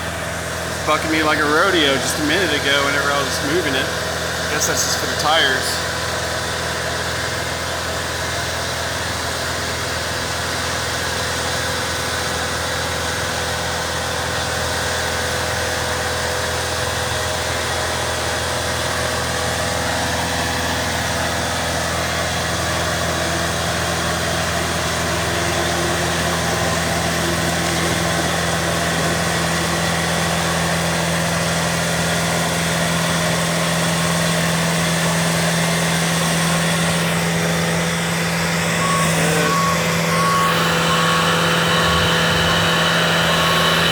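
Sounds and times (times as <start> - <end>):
boom lift engine running: 0.0 - 43.9.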